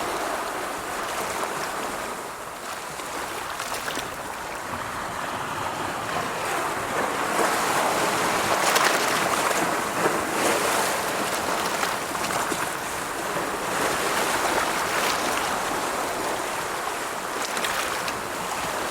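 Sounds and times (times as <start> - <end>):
rushing water: 0.0 - 18.9.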